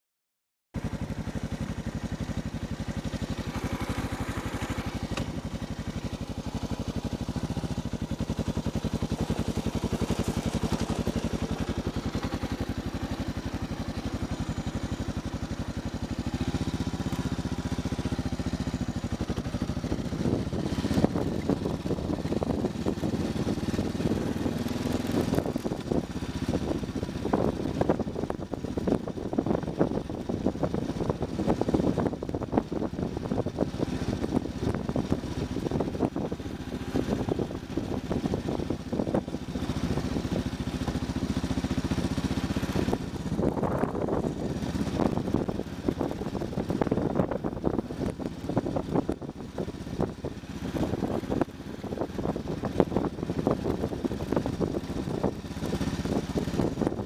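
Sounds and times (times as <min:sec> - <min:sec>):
motorcycle engine running: 0:00.8 - 0:57.0.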